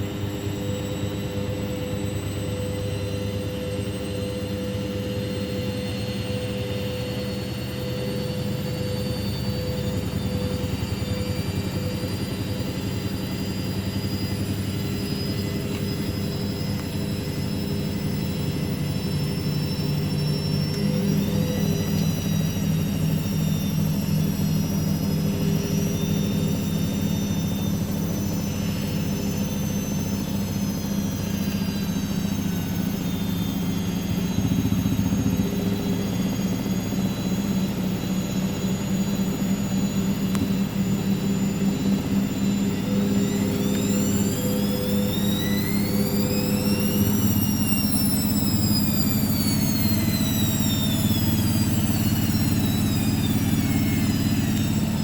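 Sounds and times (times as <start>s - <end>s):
washing machine drain pump hum: 0.0s - 55.0s
washing machine drum whining: 0.0s - 55.0s.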